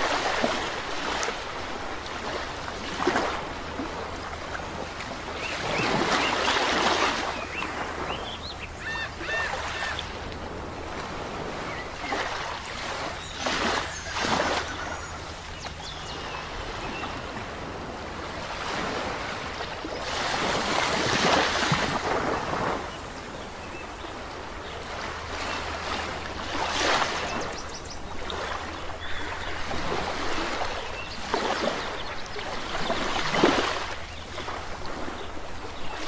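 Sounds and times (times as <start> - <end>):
sea waves breaking on shore: 0.0 - 36.0.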